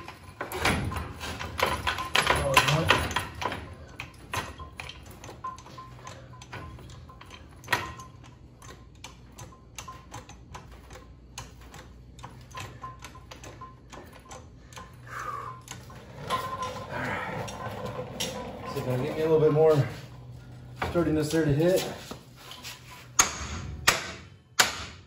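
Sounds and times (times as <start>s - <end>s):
floor jack clicking: 0.0s - 20.1s
steady low hum: 0.0s - 25.0s.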